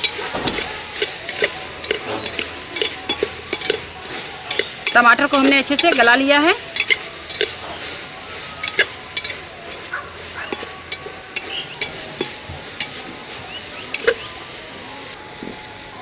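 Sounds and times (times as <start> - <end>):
spoon clicking against pot: 0.0 - 7.9, 8.6 - 14.4
vegetables sizzling in a pot: 0.0 - 16.0.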